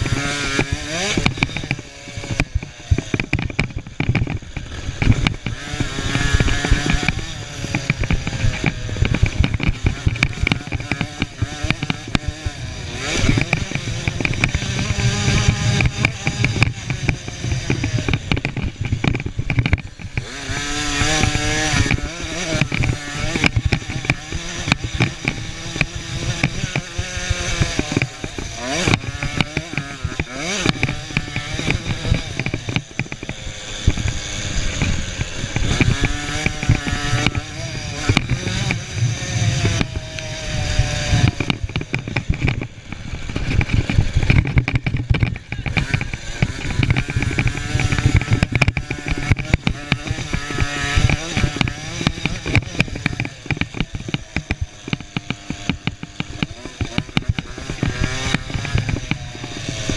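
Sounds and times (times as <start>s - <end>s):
motocross bikes revving: 0.0s - 59.9s.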